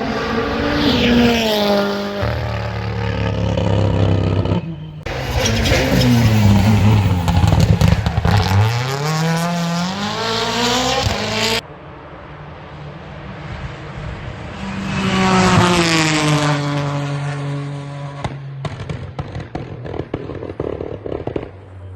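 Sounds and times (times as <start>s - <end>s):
rally car engine revving: 0.0s - 11.6s, 13.2s - 20.2s.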